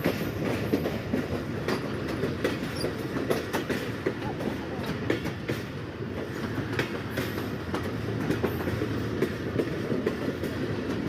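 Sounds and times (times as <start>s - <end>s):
train rumble: 0.0s - 11.0s
wheels clacking over rail joints: 0.0s - 11.0s.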